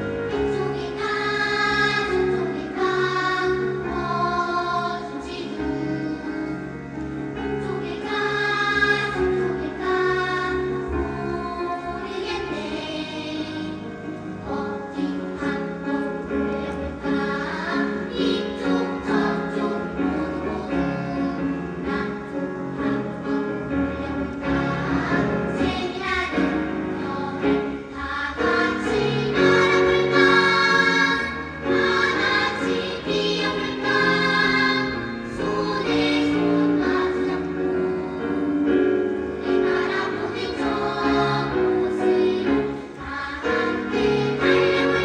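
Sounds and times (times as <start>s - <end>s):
children's choir singing: 0.0s - 45.0s.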